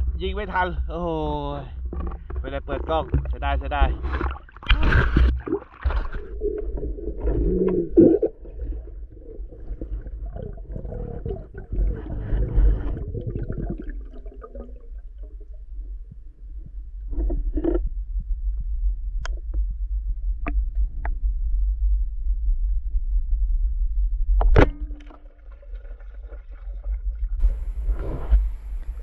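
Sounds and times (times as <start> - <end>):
muffled underwater rumble: 0.0 - 29.0.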